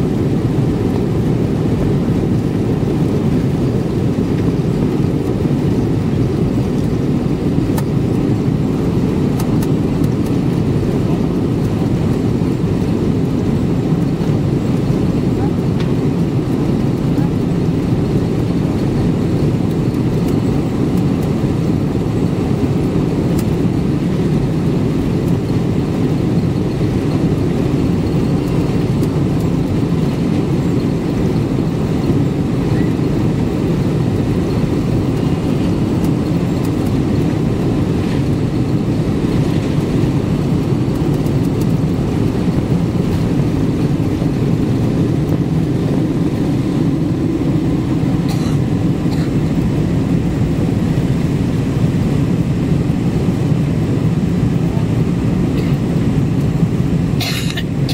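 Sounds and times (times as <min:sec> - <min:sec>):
jet engines at takeoff power: 0:00.0 - 0:57.9
wheels rumbling on runway: 0:00.0 - 0:57.9.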